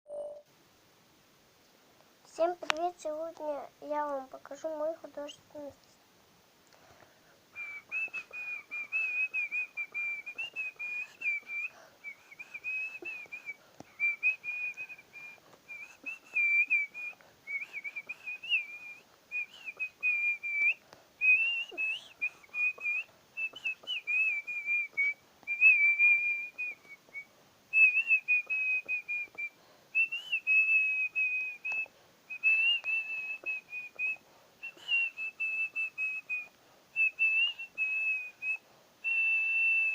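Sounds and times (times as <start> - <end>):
person whistling a melody: 7.6 - 39.9.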